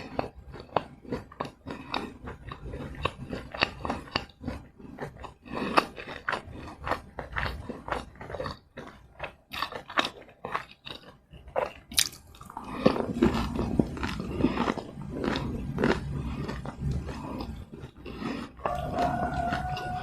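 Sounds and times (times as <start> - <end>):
crunchy chewing of fried snacks: 0.0 - 20.0.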